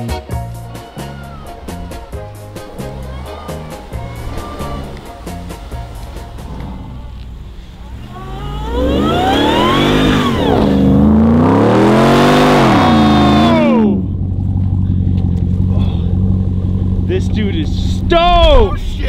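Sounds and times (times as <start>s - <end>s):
low engine rumble: 0.0s - 19.0s
truck engine revving: 0.0s - 19.0s.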